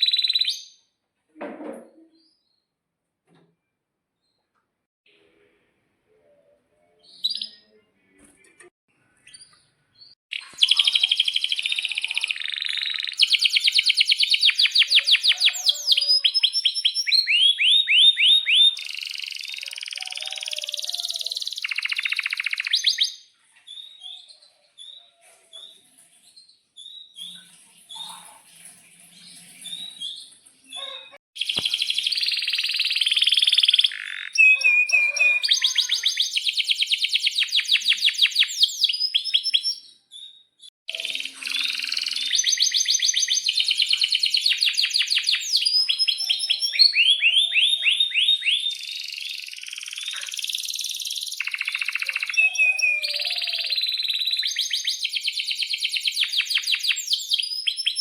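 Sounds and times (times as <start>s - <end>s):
canary singing trills and chirps: 0.0s - 0.8s, 9.2s - 28.4s, 29.2s - 58.0s.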